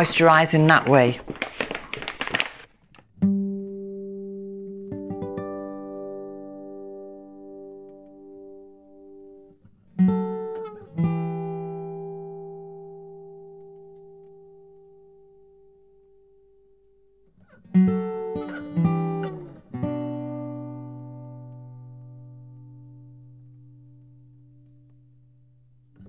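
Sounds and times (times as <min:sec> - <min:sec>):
acoustic guitar plucking: 0:03.2 - 0:15.6, 0:17.4 - 0:26.0.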